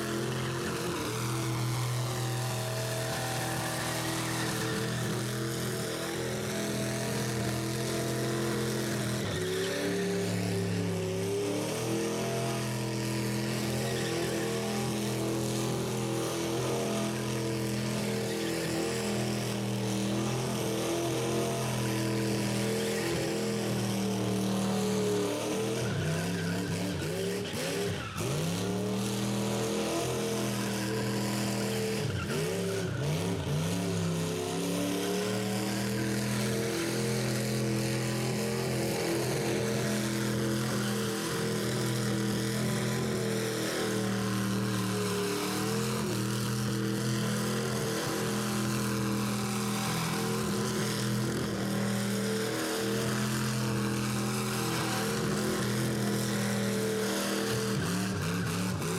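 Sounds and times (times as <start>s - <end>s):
car engine revving high: 0.0s - 58.9s
tires spinning and squealing: 0.0s - 58.9s.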